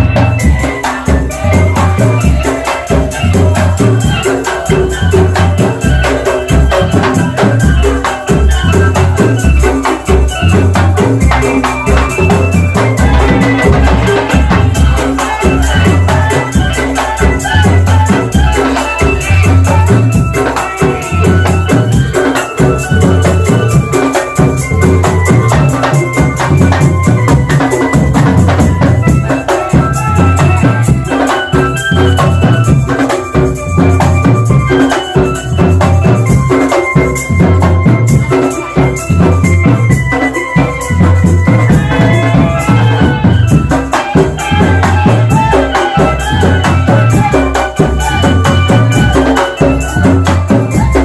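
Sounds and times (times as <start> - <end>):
bass drum beat: 0.0 - 51.0
drum band music: 0.0 - 51.0
rattling percussion: 0.0 - 51.0.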